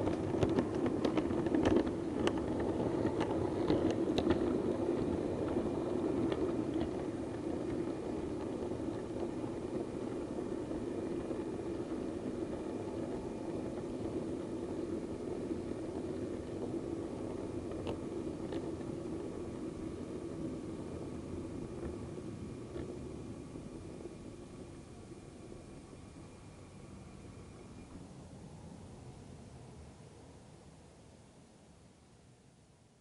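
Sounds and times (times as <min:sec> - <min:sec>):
model train rumbling: 0:00.0 - 0:30.8.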